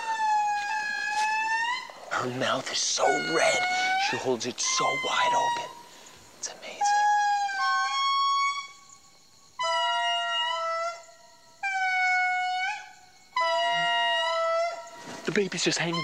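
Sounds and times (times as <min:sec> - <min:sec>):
lemur wailing call: 0:00.0 - 0:06.0, 0:06.6 - 0:16.0.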